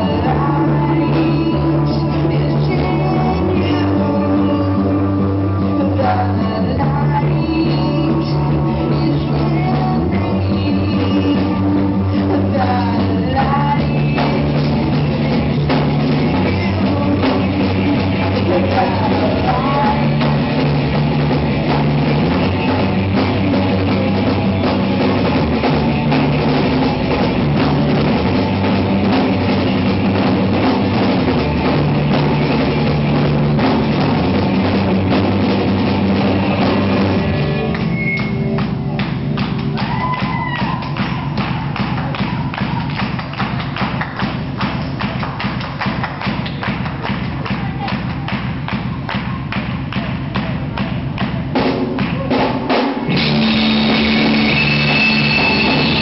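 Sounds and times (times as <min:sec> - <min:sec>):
bass line: 0:00.0 - 0:56.0
rock band playing live: 0:00.0 - 0:56.0.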